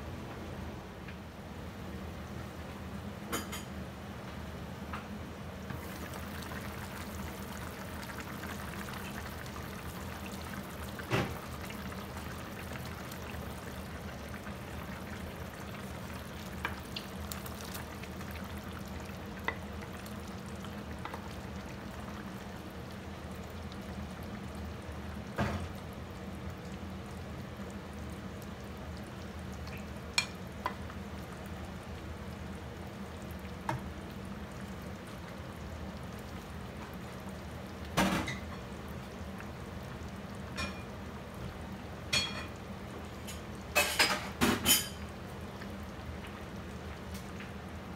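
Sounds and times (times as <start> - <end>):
food sizzling in a frying pan: 5.6 - 47.9.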